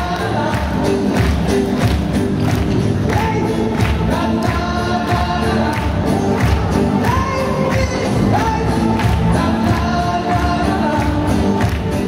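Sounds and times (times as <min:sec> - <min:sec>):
music with singing and beat: 0:00.0 - 0:12.0.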